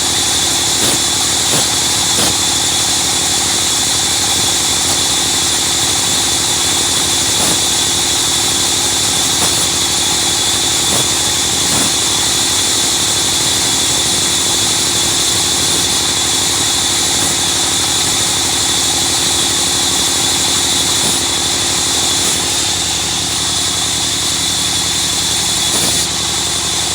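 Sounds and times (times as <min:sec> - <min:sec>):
sawmill machine hum and hiss: 0:00.0 - 0:26.9.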